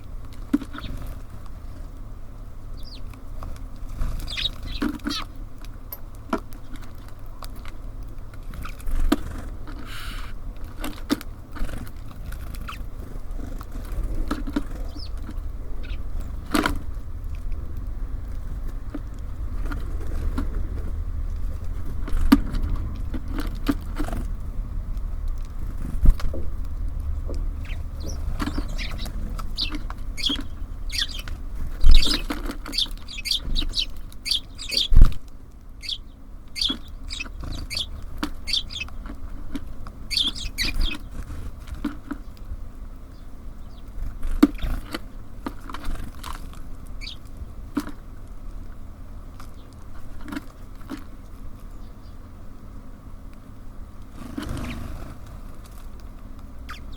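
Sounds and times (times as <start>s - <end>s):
low rumble of city traffic: 0.0s - 56.9s
small songbirds chirping: 0.0s - 56.9s.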